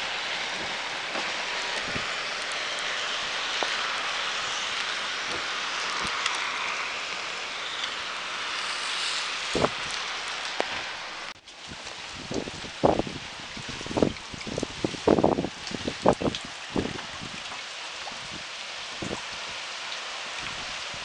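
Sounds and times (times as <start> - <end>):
rain hissing: 0.0 - 21.0
wet road noise: 0.0 - 21.0.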